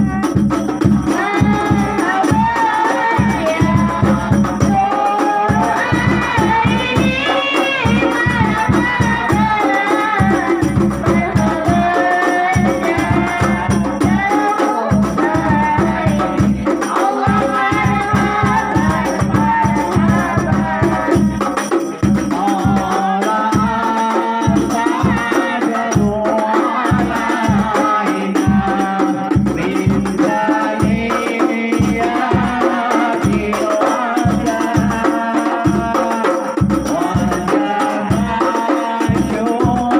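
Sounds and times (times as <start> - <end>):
devotional singing lead voice: 0.0 - 39.9
hand-struck frame drums with jingles: 0.0 - 39.9.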